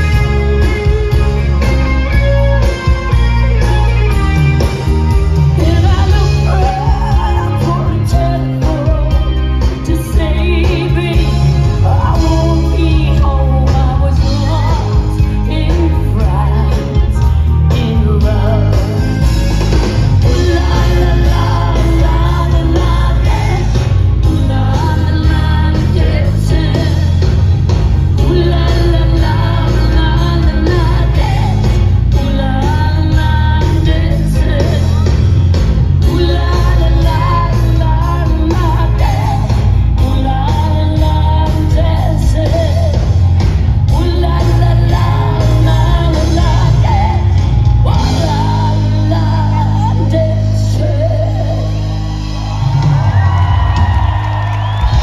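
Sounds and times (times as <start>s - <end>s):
live rock band playing: 0.0s - 55.0s
woman singing: 5.4s - 19.5s, 20.2s - 35.3s, 36.0s - 52.0s.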